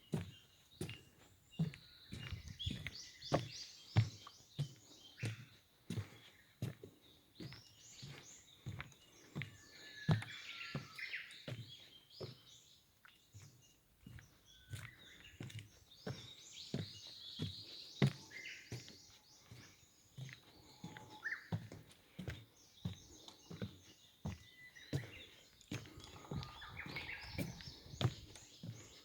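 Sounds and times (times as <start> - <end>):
small birds chirping: 0.0 - 29.0
footsteps walking: 0.1 - 10.5, 13.4 - 29.0.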